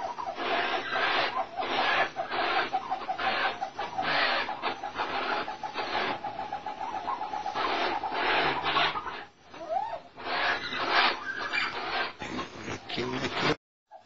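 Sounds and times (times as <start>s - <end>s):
bird clucking calls: 0.0s - 13.5s.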